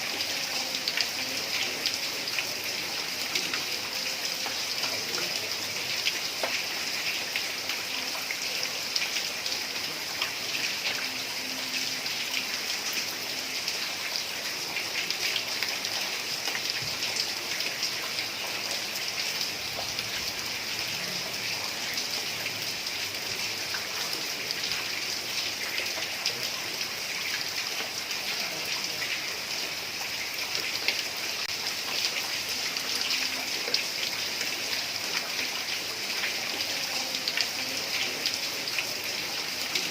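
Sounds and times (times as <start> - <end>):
heavy rain on a tiled roof: 0.0 - 39.9.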